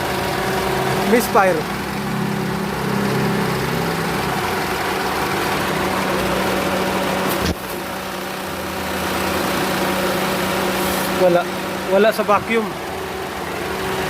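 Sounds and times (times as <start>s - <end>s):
car engine idling roughly: 0.0s - 14.0s.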